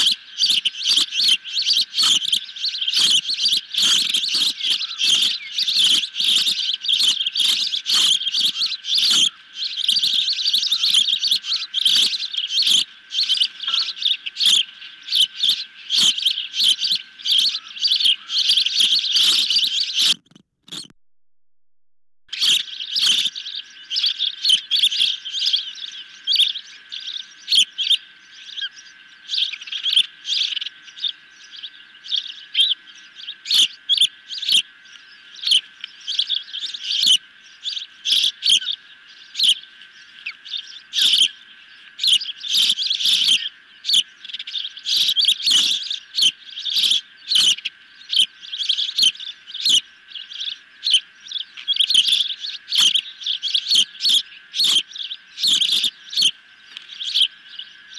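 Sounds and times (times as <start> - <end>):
ospreys chirping: 0.0 - 21.0, 22.3 - 57.9.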